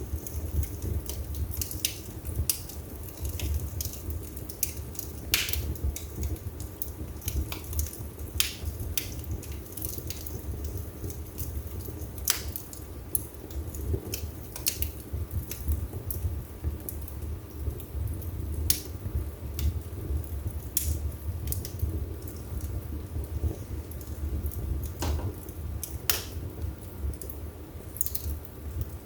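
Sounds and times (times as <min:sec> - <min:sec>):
burning wood crackling and popping: 0:00.0 - 0:29.0
low rumble of flames: 0:00.0 - 0:29.0.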